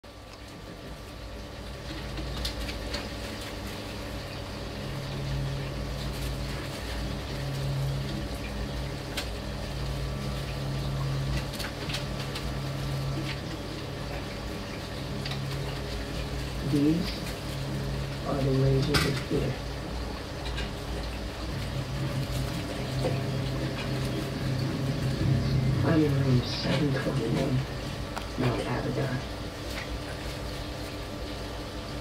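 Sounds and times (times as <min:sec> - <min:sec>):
guinea pigs rustling in bedding: 0:00.1 - 0:32.0
low pulsing hum: 0:00.1 - 0:32.0.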